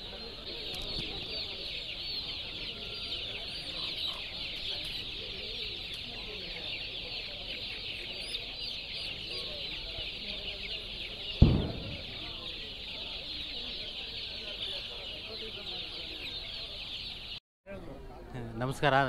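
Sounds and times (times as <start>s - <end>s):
chickens cheeping and clucking: 0.0s - 19.0s.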